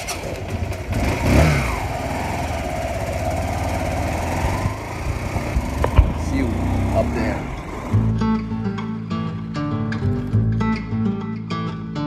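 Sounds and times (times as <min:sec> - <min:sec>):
motorcycle engine rumbling: 0:00.0 - 0:10.4.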